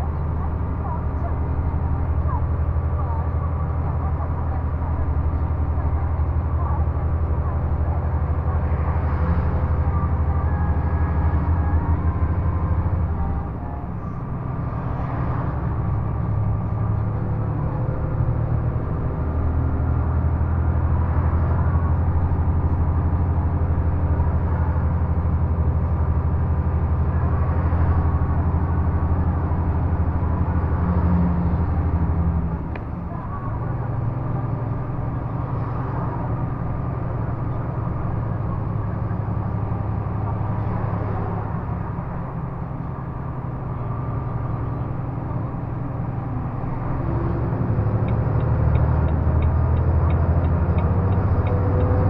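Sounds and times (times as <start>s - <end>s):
truck engine and road noise: 0.0s - 52.0s.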